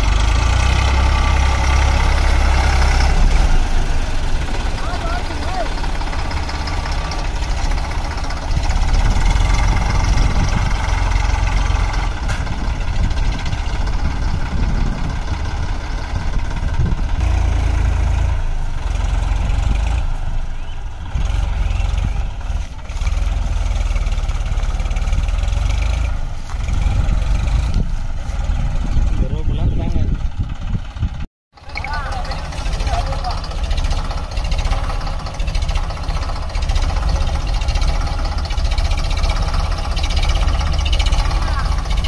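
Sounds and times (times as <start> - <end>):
tractor diesel engines running: 0.0 - 42.0.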